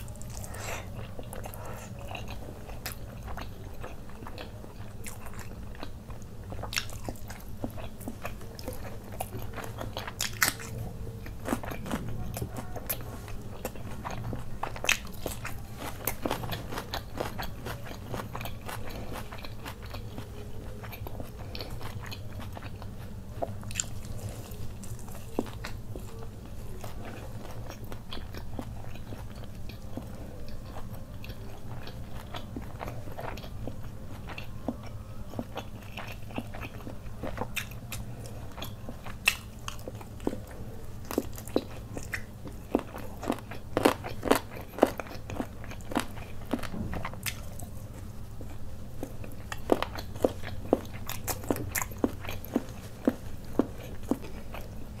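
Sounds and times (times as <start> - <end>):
crunchy chewing: 0.0 - 55.0
steady low hum: 0.0 - 55.0.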